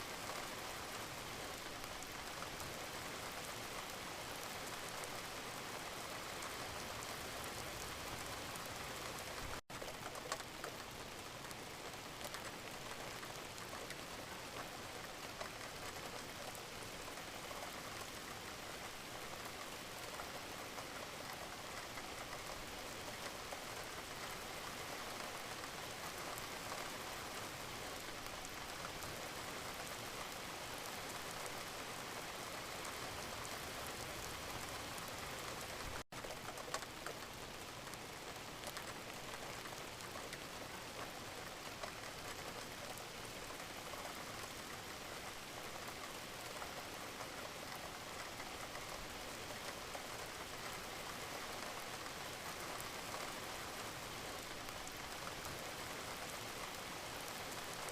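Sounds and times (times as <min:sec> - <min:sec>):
gentle rain falling: 0:00.0 - 0:57.9.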